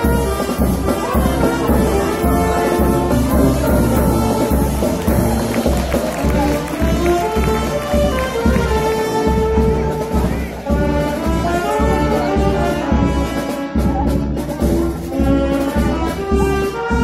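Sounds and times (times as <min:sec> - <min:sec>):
brass band music: 0:00.0 - 0:17.0.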